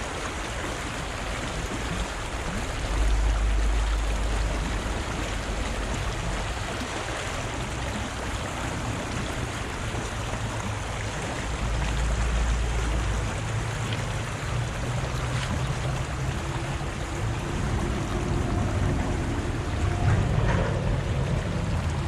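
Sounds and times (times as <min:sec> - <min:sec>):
river water rushing over rocks: 0:00.0 - 0:22.0
deep low rumble: 0:02.4 - 0:22.0.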